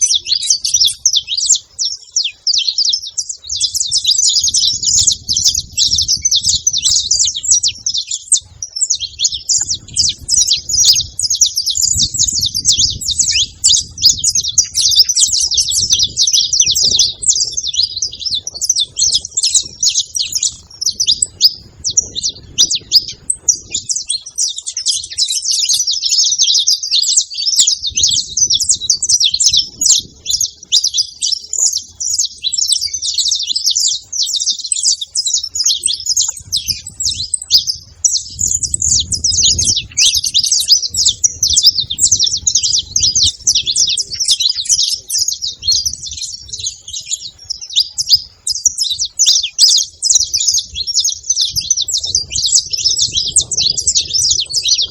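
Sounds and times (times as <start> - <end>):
finches chirping and singing: 0.0 - 54.9.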